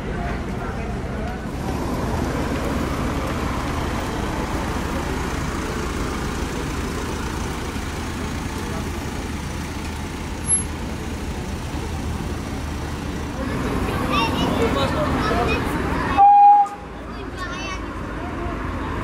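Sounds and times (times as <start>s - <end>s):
street traffic engines humming: 0.0s - 19.0s.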